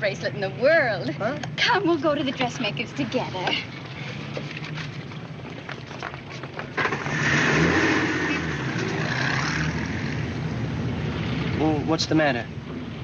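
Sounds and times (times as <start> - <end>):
car engine rumble: 0.0 - 13.0
street traffic: 0.0 - 13.0.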